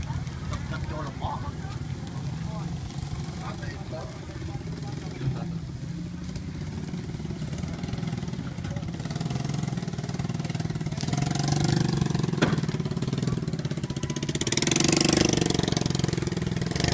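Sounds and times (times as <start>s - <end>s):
small engine running: 2.5s - 16.9s.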